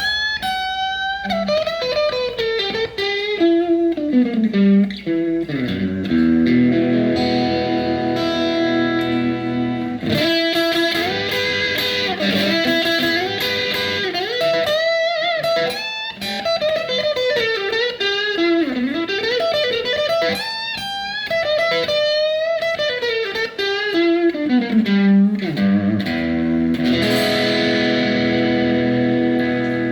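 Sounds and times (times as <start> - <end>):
electric guitar playing: 0.0 - 29.9.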